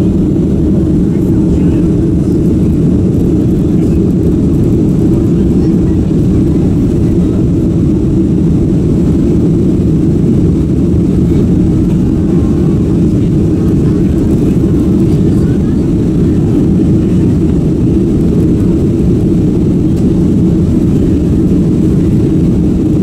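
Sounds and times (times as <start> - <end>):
jet engine drone in cabin: 0.0 - 23.0
rushing air: 0.0 - 23.0.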